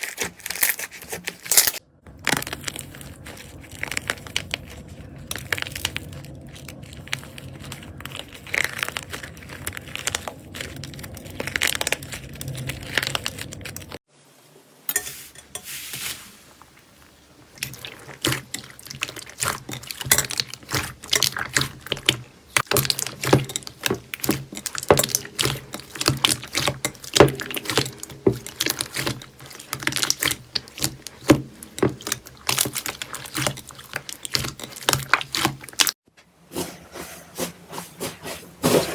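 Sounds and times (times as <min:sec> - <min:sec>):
slime squelching and clicking: 0:00.1 - 0:14.0, 0:17.6 - 0:36.0.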